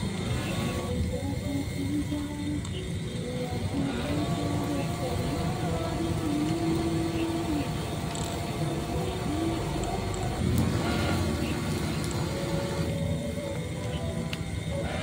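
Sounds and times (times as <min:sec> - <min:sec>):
sung melody with music: 0:00.0 - 0:15.0.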